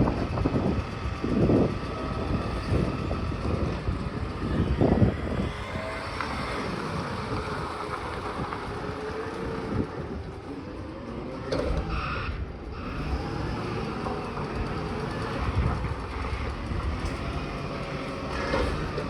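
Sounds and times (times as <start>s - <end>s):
garbage truck engine rumble: 0.0s - 19.0s.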